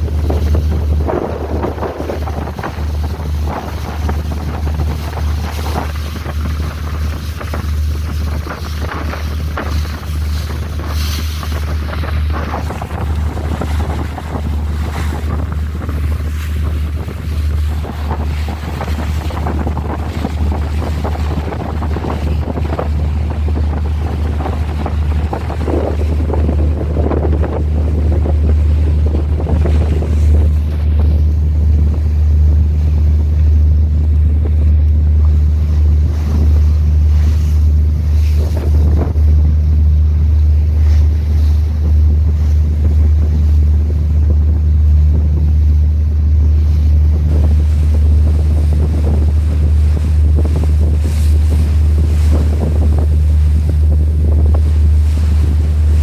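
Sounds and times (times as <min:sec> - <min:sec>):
low rumble: 0:00.0 - 0:56.0
sea waves: 0:00.0 - 0:56.0
wind buffeting microphone: 0:00.0 - 0:56.0.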